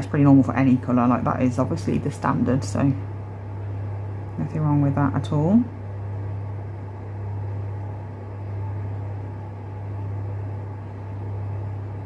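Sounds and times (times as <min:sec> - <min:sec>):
room heater humming: 0:00.0 - 0:12.0.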